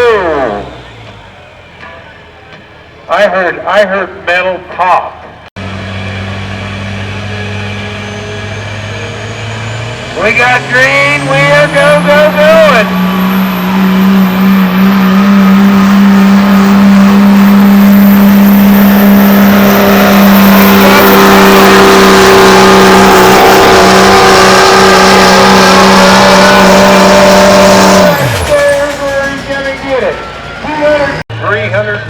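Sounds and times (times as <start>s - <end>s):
truck engine loud drone: 0.0s - 32.0s.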